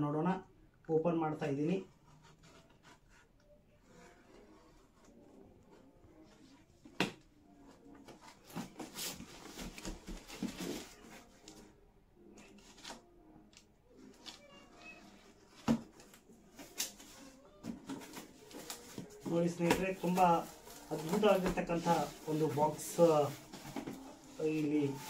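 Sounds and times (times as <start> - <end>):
cardboard and tape rustling: 2.0 - 11.8, 12.4 - 25.0.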